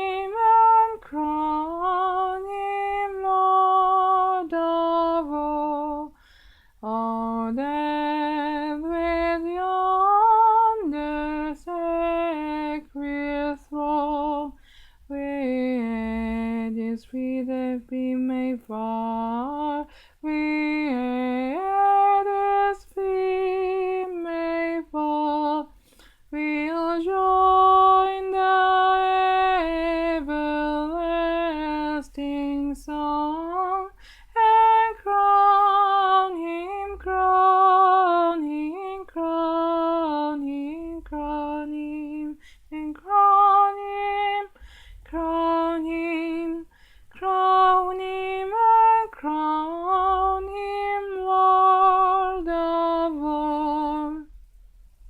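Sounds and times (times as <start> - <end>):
woman singing a hymn: 0.0 - 54.3.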